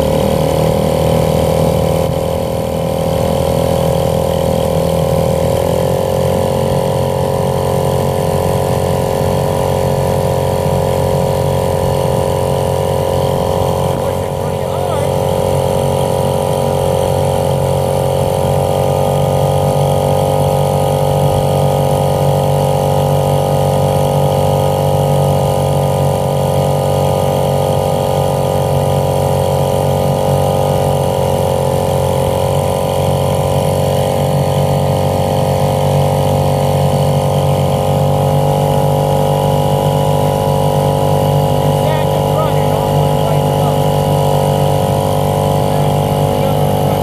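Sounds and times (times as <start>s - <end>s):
outboard engine running: 0.0s - 47.0s.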